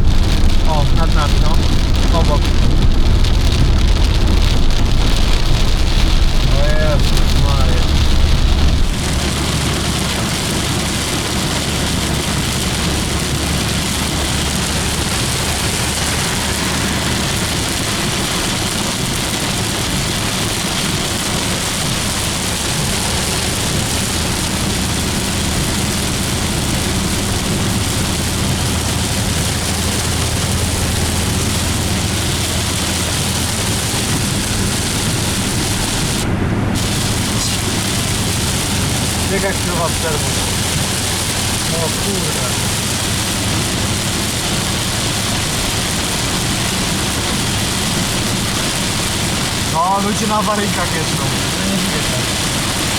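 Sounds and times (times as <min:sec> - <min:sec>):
engine and tyres hum: 0:00.0 - 0:52.9
torrential rain hitting a car: 0:00.0 - 0:52.9.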